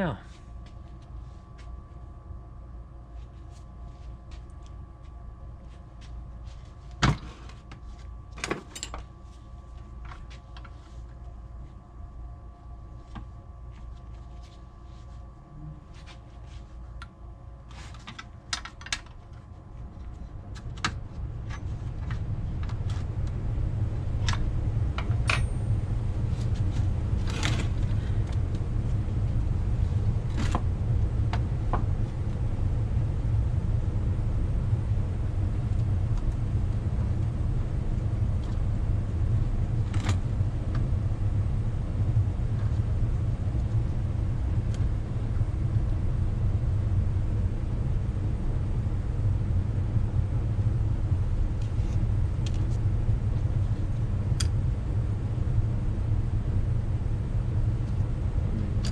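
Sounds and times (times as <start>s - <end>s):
low mechanical rumble: 0.0s - 58.9s.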